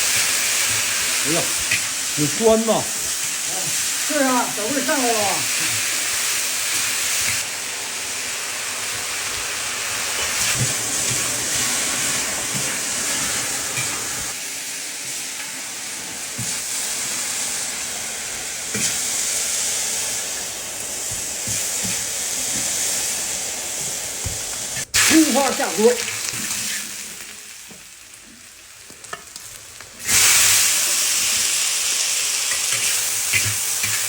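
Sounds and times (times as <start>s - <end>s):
food sizzling in a pot: 0.0s - 34.0s.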